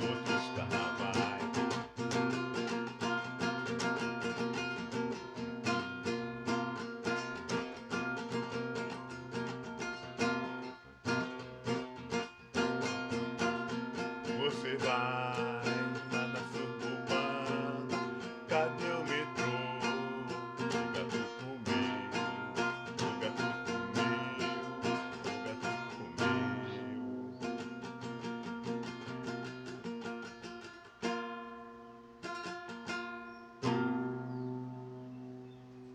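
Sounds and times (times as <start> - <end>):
guitar strumming: 0.0 - 35.9.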